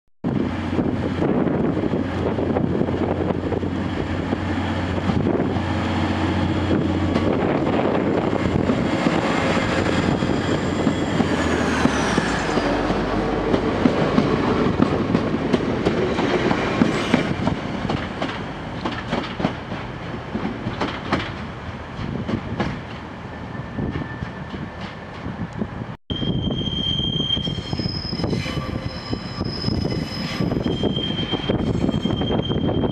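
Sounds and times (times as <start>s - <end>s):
diesel train engines: 0.3s - 32.9s.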